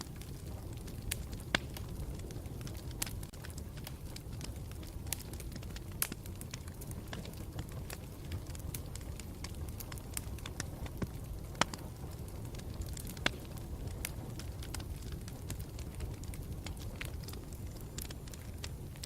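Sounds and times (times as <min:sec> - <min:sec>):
campfire low rumble: 0:00.0 - 0:19.0
fire crackles and pops: 0:00.0 - 0:19.0.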